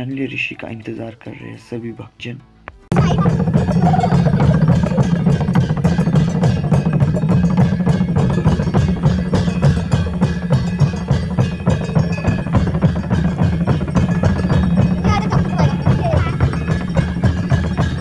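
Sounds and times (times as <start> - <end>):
clanging metal percussion: 2.9 - 18.0
drums beaten fast: 2.9 - 18.0.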